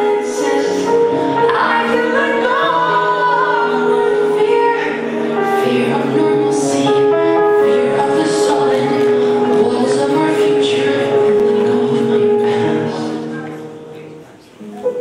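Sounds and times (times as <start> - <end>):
woman singing with music: 0.0 - 14.0.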